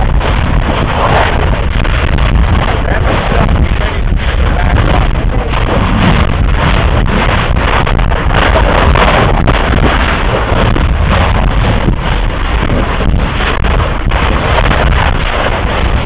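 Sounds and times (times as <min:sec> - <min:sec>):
crackling: 0:00.0 - 0:16.0
lava roar: 0:00.0 - 0:16.0
rumble on microphone: 0:00.0 - 0:16.0.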